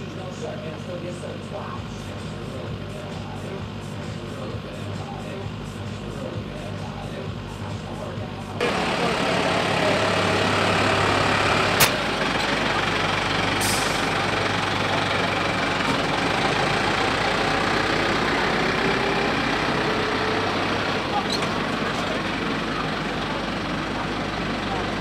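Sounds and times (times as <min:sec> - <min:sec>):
tractor diesel engine idling: 0:00.0 - 0:25.0.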